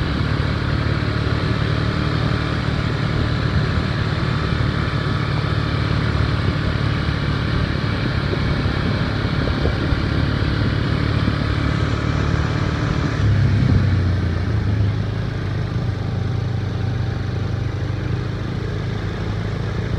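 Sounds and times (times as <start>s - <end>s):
vehicle engine rumble: 0.0s - 19.9s.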